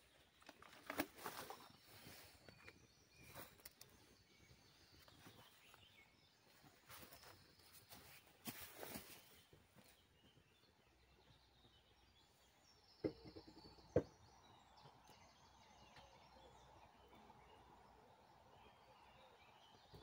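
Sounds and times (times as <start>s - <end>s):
faint bird chirps: 0.0s - 20.0s.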